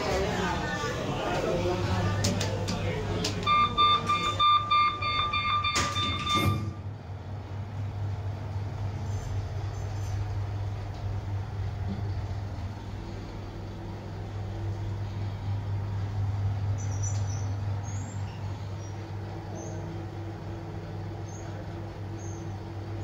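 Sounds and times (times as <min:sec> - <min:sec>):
lift car hum and rumble: 0:00.0 - 0:23.0.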